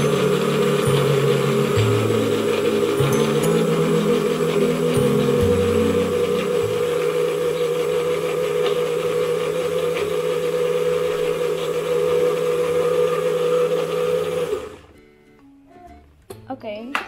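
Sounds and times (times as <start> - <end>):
blender motor humming: 0.0 - 14.9.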